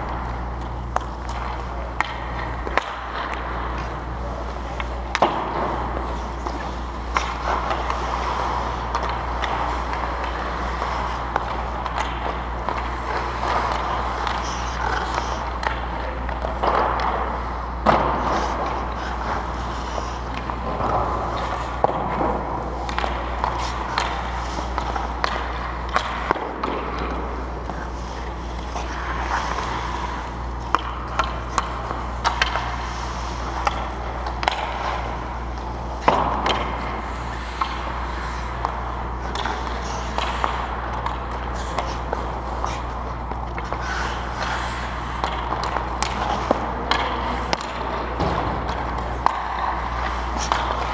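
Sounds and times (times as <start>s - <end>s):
hockey sticks and puck clacking: 0.0s - 50.9s
skates scraping on ice: 0.0s - 50.9s
steady low hum: 0.0s - 50.9s.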